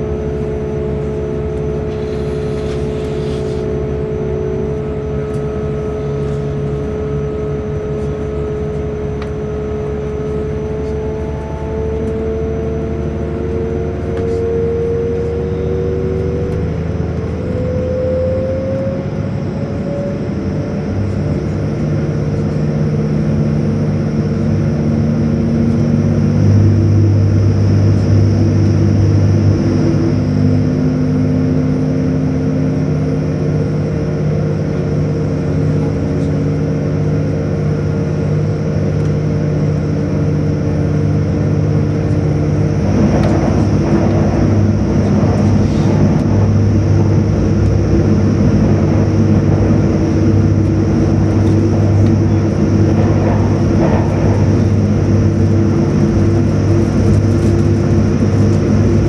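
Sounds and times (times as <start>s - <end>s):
diesel train engines rumbling: 0.0s - 59.0s
wheels rumbling on rail: 0.0s - 59.0s
whine climbing in pitch: 8.9s - 35.4s, 36.8s - 59.0s.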